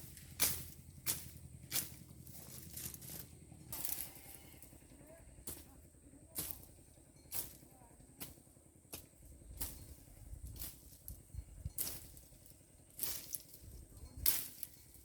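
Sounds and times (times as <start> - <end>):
bladed tool chopping weeds: 0.0 - 4.3, 5.4 - 6.7, 7.3 - 11.2, 11.8 - 15.0.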